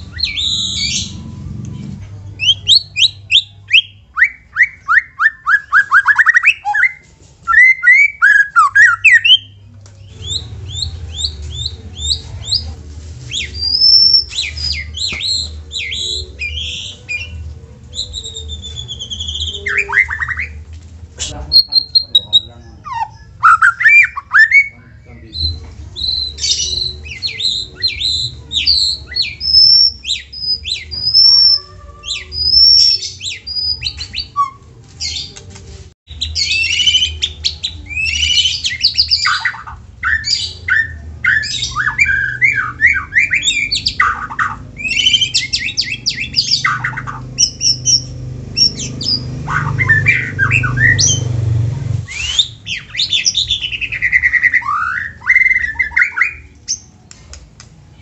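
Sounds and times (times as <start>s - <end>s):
songbird singing whistles and chatter: 0.0s - 35.4s, 36.1s - 57.0s.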